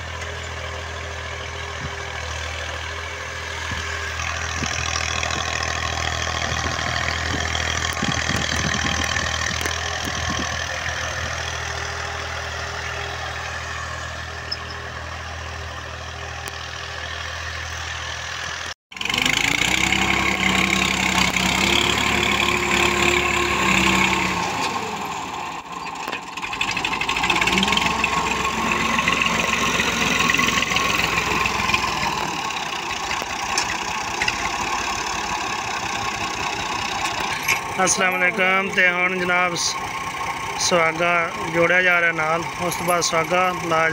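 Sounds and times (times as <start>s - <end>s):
diesel tractor engine running: 0.0s - 43.9s.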